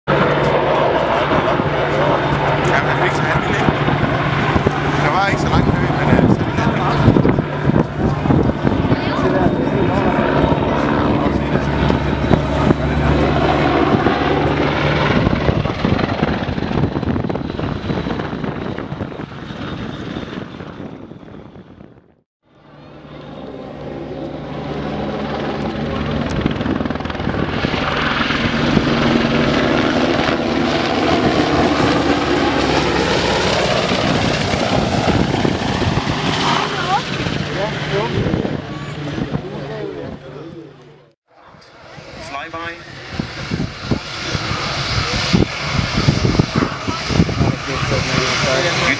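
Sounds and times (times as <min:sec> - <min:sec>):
aircraft engine flying past: 0:00.1 - 0:48.9.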